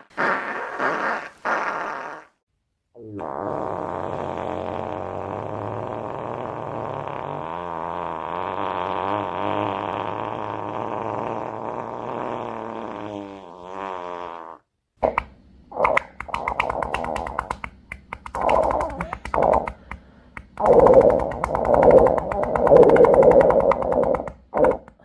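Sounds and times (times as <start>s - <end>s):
long wavering fart: 0.0s - 2.4s, 3.0s - 17.6s, 18.3s - 19.8s, 20.6s - 25.0s
short sputtering fart bursts: 0.0s - 2.4s, 3.2s - 25.0s.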